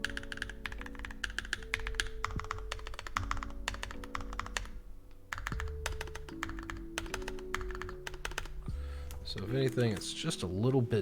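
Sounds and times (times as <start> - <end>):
mechanical keyboard typing: 0.0 - 10.2.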